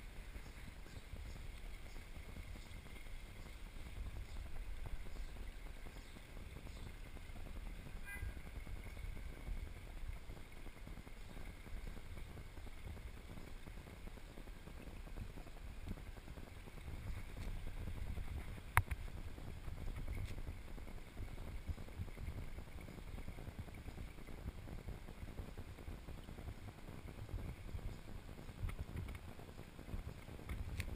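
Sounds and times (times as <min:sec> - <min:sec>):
low outdoor rumble: 0:00.0 - 0:30.9.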